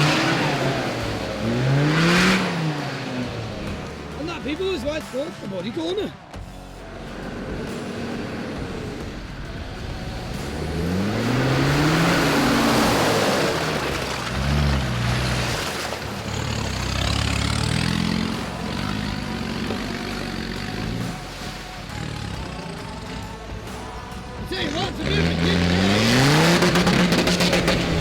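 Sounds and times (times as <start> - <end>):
engine revving: 0.0 - 28.0.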